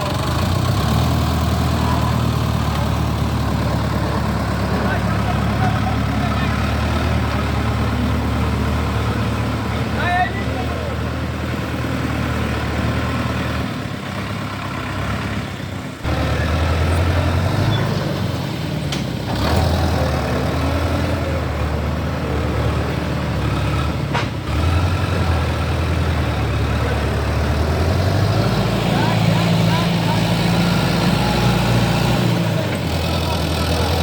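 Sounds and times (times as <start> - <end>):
vehicle engine humming: 0.0 - 34.0.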